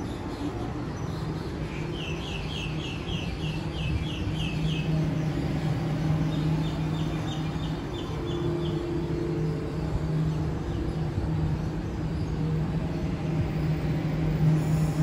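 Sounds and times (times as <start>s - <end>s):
electric train motor hum: 3.0s - 15.0s.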